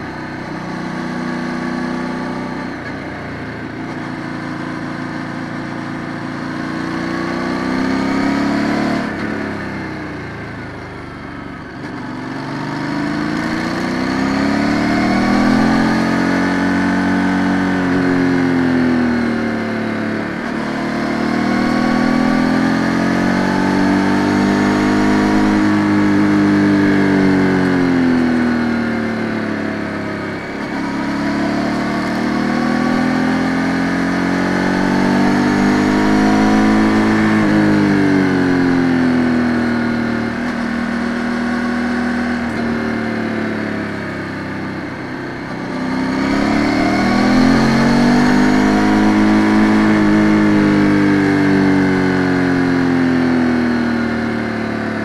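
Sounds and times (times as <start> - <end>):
motorcycle engine revving on road: 0.0 - 55.0.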